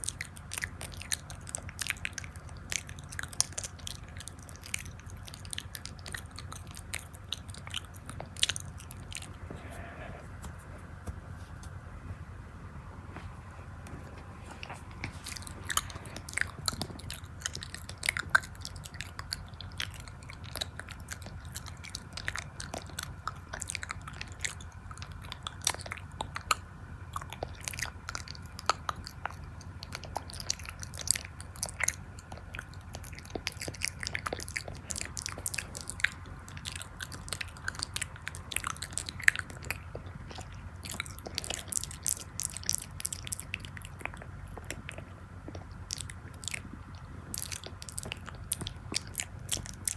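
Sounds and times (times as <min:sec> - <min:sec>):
chewing crunchy food: 0:00.0 - 0:11.8, 0:13.1 - 0:49.9
steady low hum: 0:00.0 - 0:49.9.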